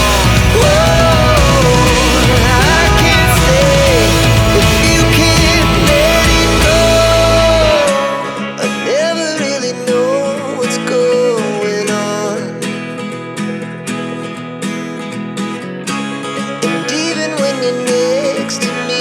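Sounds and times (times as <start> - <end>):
pop song with acoustic guitar: 0.0 - 19.0.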